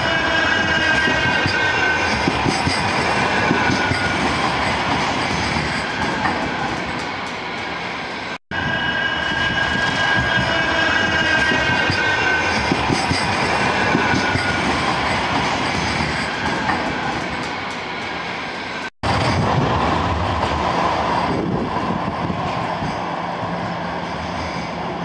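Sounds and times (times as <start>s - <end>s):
tram wheels rumbling on rails: 0.0s - 25.0s.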